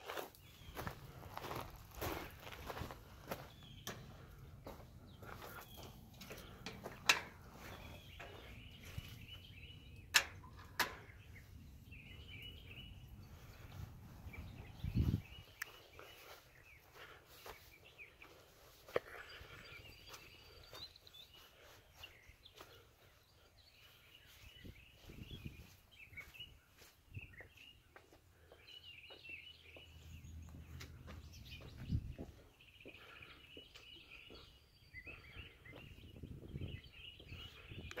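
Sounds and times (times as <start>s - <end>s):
birds chirping faintly: 0.0s - 38.0s.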